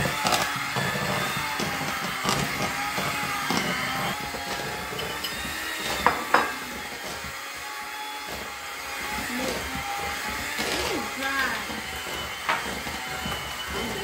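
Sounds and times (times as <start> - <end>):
electric hand mixer running: 0.0 - 14.0.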